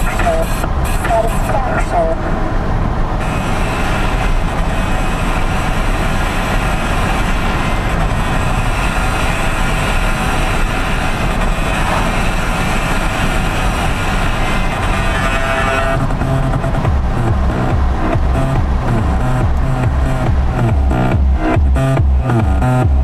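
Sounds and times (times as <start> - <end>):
vehicle cabin road rumble: 0.0 - 23.0.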